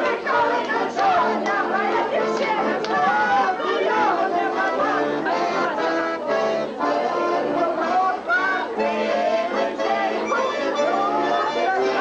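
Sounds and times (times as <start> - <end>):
accordion playing a tune: 0.0 - 12.0
voices singing along: 0.0 - 12.0.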